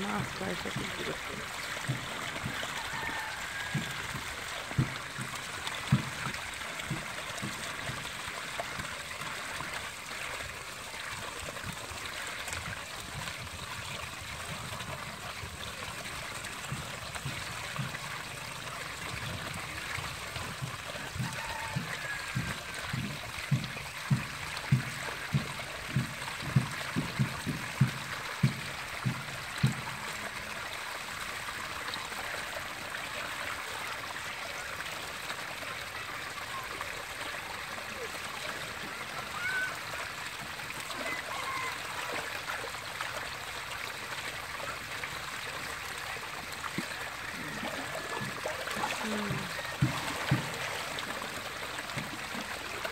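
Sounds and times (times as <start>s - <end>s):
water trickling: 0.0s - 52.9s.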